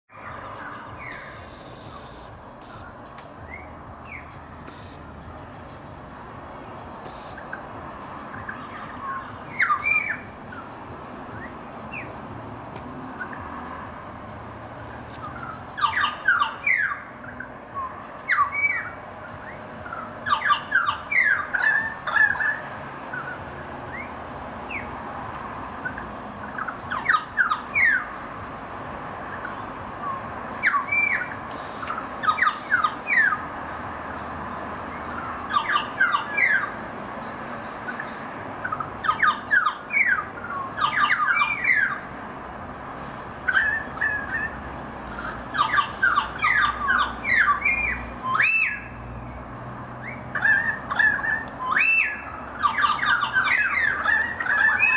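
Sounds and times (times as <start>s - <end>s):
birds calling: 0.1s - 28.3s, 29.1s - 54.9s
steady background noise: 0.1s - 54.9s.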